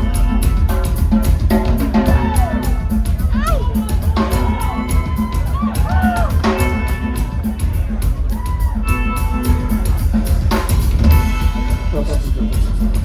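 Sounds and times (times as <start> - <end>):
live band playing: 0.0 - 13.0
rapid drum and cymbal hits: 0.0 - 13.0.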